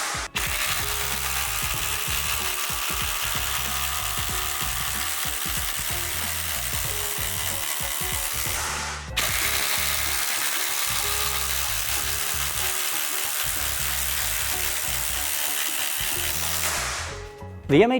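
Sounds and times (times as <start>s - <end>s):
background music with bass: 0.0s - 10.3s, 13.5s - 17.9s
impact driver hammering: 0.0s - 17.3s.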